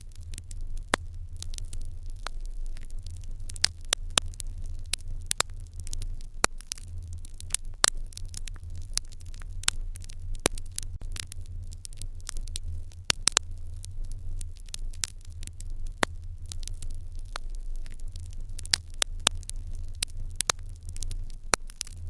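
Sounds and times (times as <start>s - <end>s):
fire crackling and popping: 0.0s - 22.0s
low rumble: 0.0s - 22.0s.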